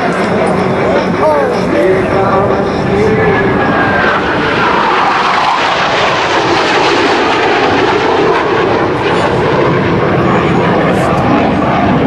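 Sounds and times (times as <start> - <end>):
jet engines blasting past: 0.0 - 12.0.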